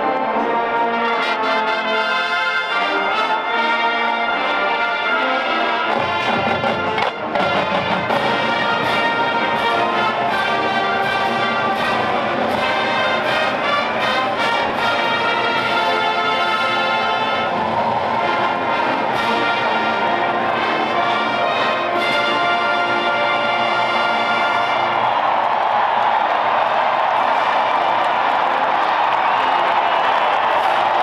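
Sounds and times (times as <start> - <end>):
marching band playing: 0.0 - 31.0.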